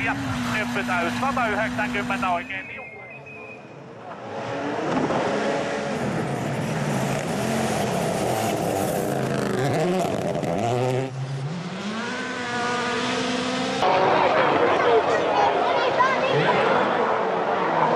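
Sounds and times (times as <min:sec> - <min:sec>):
rally car engine revving: 0:00.0 - 0:02.5, 0:03.1 - 0:17.9
gravel and road noise: 0:00.0 - 0:17.9.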